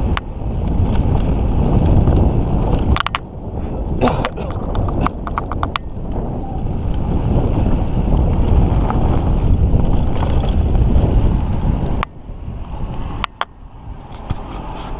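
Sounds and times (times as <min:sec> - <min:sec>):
bike tyre rumble on trail: 0:00.0 - 0:14.9
wind buffeting microphone: 0:00.0 - 0:14.9.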